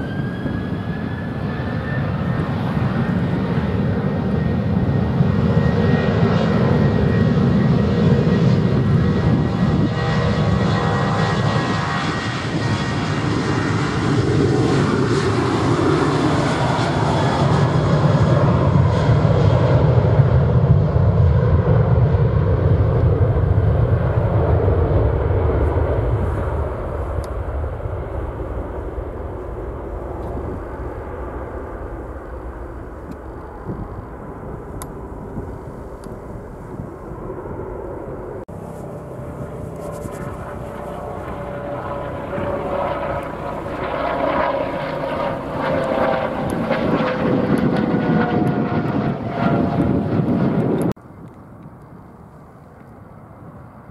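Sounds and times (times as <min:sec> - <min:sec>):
aircraft engine rumble: 0:00.0 - 0:53.9.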